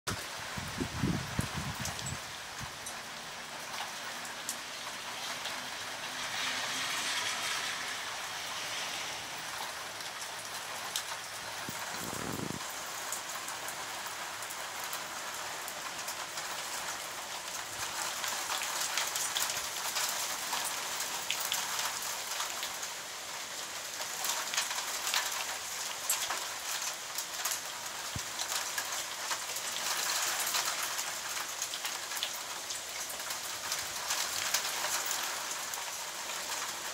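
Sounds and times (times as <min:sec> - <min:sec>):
heavy rain and hail falling: 0:00.1 - 0:36.9.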